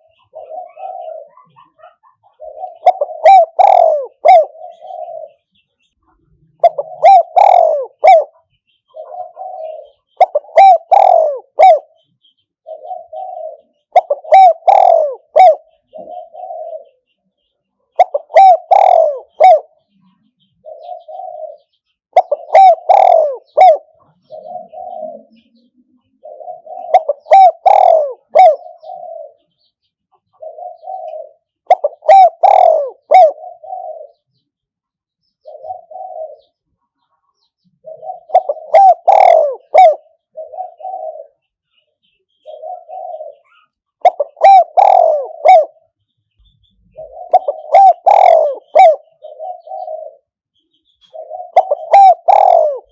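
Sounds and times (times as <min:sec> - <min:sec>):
dove cooing: 0:00.0 - 0:17.1, 0:17.9 - 0:34.4, 0:35.4 - 0:36.6, 0:37.3 - 0:46.0, 0:46.6 - 0:50.4, 0:51.0 - 0:52.9.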